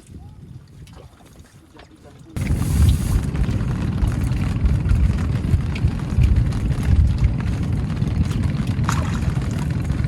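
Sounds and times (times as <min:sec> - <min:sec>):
wind buffeting microphone: 0:00.0 - 0:01.6, 0:02.3 - 0:10.0.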